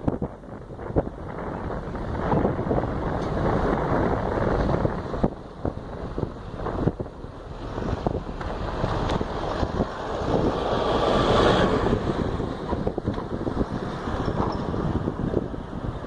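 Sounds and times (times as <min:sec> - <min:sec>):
road vehicle passing: 0:00.0 - 0:16.0
wind buffeting microphone: 0:00.0 - 0:16.0.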